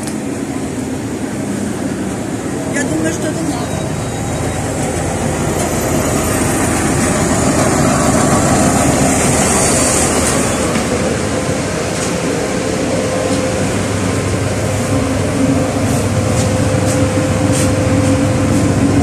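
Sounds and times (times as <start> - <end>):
bus engine drone: 0.0 - 19.0
road rumble: 0.0 - 19.0.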